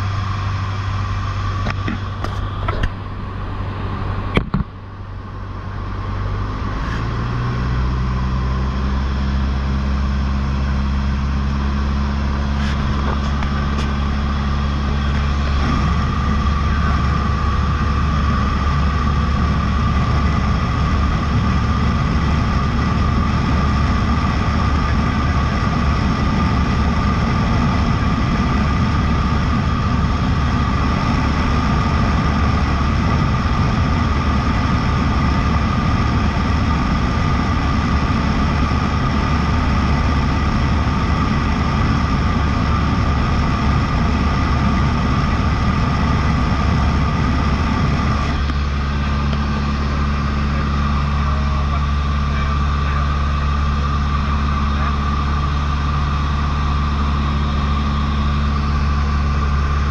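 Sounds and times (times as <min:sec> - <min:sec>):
small plane engine droning: 0:00.0 - 0:59.9.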